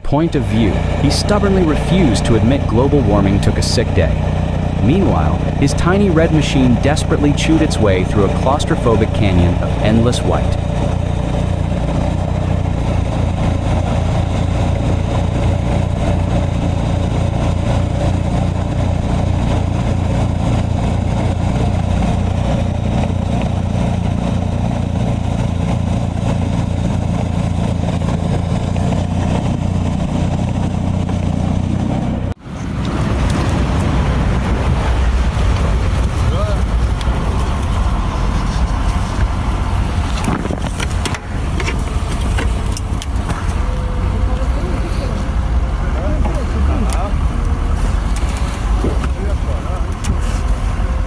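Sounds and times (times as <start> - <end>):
deeper machine engine: 0.0 - 51.0
snow blower engine droning: 0.0 - 51.0.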